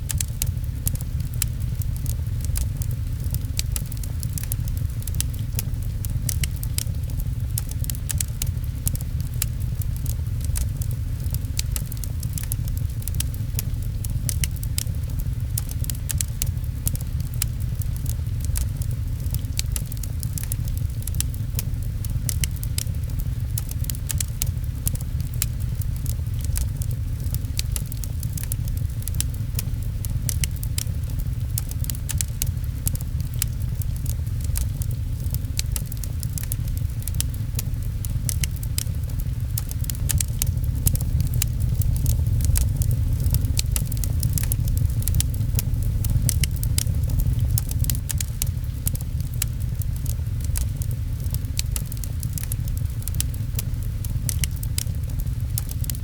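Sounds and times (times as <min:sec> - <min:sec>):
low rumble: 0:00.0 - 0:56.0
rain: 0:00.0 - 0:56.0
wood fire crackling and popping: 0:00.0 - 0:56.0.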